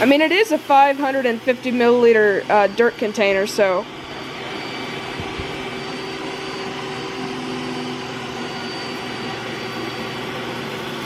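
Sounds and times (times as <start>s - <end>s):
robot vacuum humming: 0.0s - 11.0s
thin high whine: 0.9s - 11.0s.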